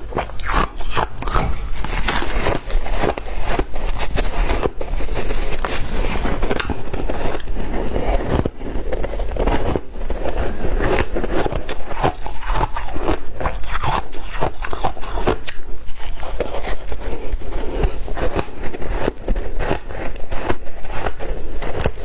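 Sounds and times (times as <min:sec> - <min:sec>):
ice being chewed and crunched: 0:00.0 - 0:22.0.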